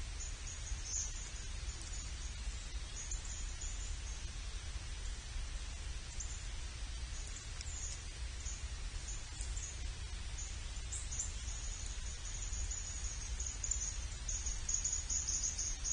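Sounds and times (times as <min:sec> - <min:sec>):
insects trilling: 0:00.0 - 0:15.9
steady low rumble: 0:00.0 - 0:15.9.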